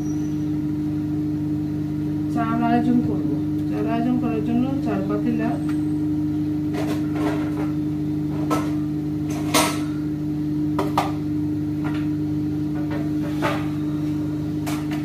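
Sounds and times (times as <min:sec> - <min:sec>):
low electrical appliance hum: 0:00.0 - 0:15.0.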